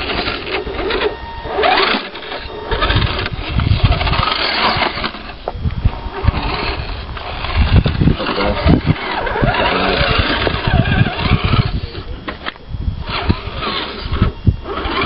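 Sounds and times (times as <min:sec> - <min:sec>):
low rumbling thumps: 0:00.0 - 0:14.7
electric motor and gearbox whining: 0:00.0 - 0:15.0.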